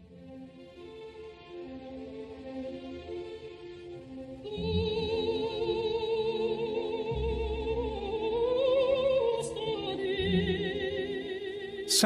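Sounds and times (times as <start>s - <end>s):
slow operatic music: 0.0s - 12.0s.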